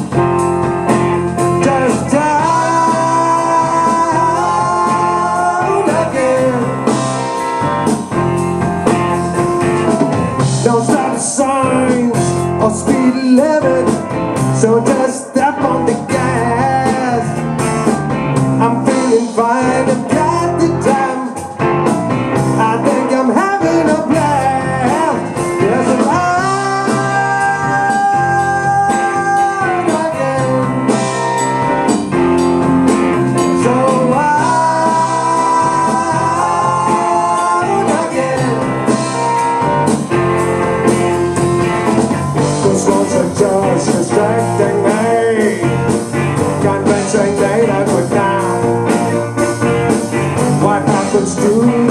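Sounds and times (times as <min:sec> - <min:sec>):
bass guitar: 0:00.0 - 0:51.9
drum kit: 0:00.0 - 0:51.9
electric guitar: 0:00.0 - 0:51.9
keyboard: 0:00.0 - 0:51.9.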